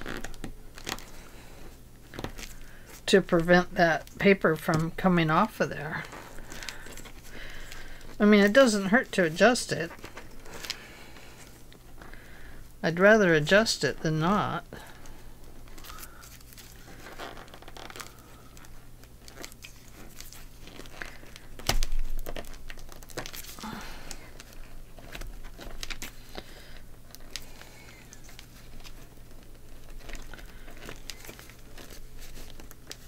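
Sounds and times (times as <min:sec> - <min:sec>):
paper pages rustling: 0:00.0 - 0:12.5, 0:14.8 - 0:33.0.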